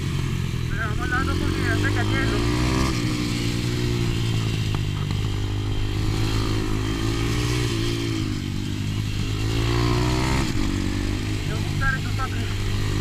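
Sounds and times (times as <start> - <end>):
motorbike engine running hard: 0.0 - 13.0.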